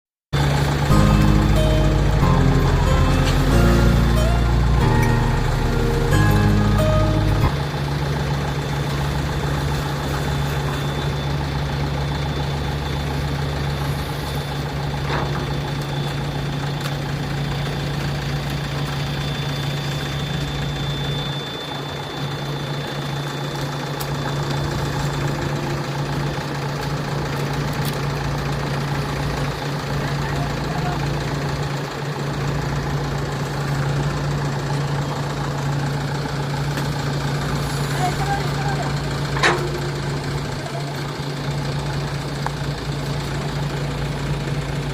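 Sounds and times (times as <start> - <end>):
diesel engine running: 0.4 - 44.9.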